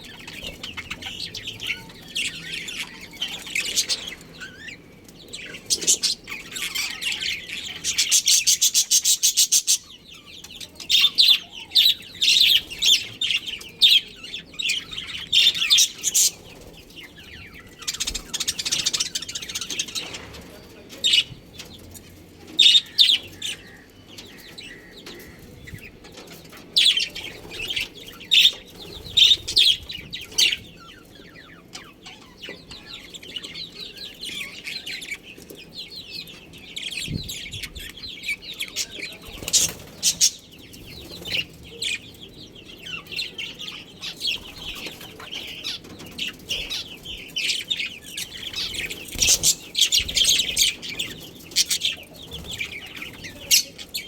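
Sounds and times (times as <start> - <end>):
budgies chirping and warbling: 0.0 - 54.0.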